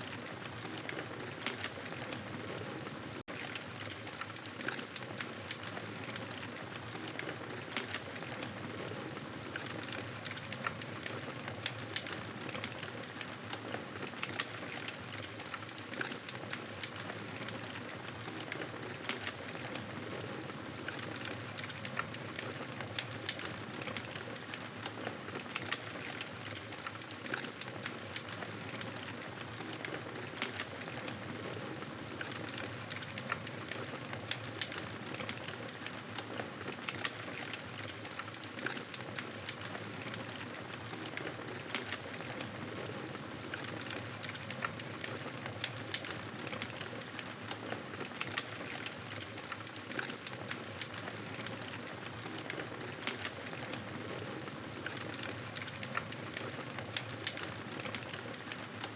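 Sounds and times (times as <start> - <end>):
campfire crackling and popping: 9.4 - 58.8.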